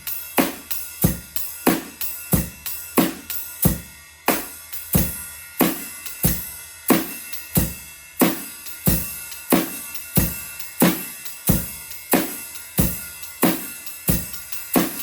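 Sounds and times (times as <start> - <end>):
drum kit rock beat: 0.0 - 15.0
ride cymbal pattern: 0.0 - 15.0.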